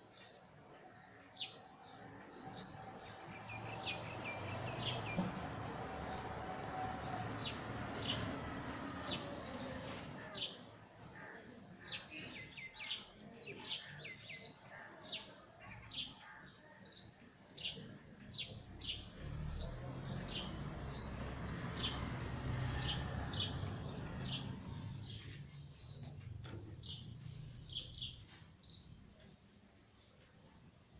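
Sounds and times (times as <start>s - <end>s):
sparrows chirping: 0.1s - 30.2s.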